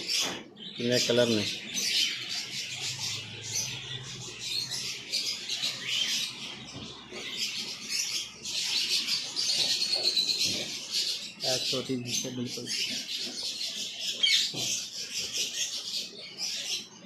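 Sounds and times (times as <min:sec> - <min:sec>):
caged birds chirping: 0:00.0 - 0:17.0.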